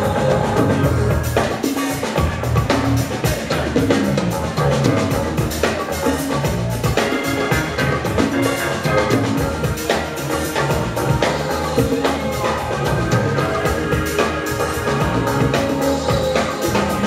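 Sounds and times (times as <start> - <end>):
drum kit playing: 0.0 - 17.0
electric bass: 0.0 - 17.0.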